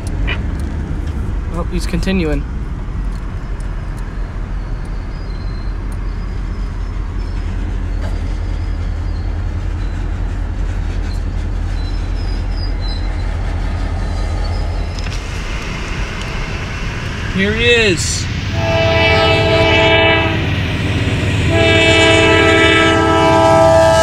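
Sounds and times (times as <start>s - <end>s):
freight train rumbling on rails: 0.0s - 24.0s.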